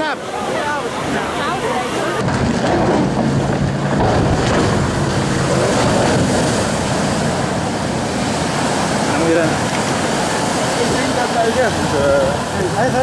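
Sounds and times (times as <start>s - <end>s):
ship hull splashing into water: 0.9s - 13.0s.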